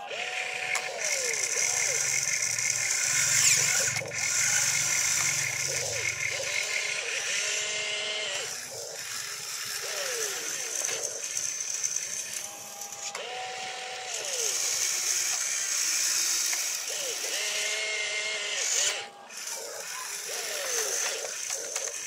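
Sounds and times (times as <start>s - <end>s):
electric motors whirring: 0.0s - 22.0s.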